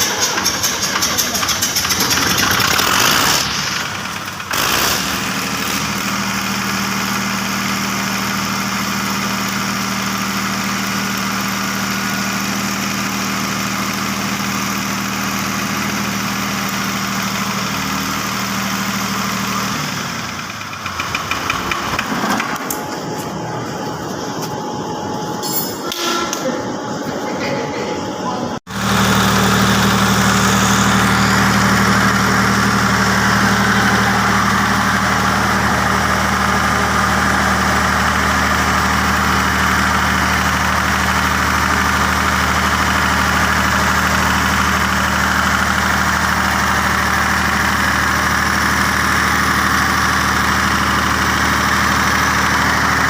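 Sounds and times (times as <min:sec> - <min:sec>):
diesel generator engine running: 0:00.0 - 0:53.0.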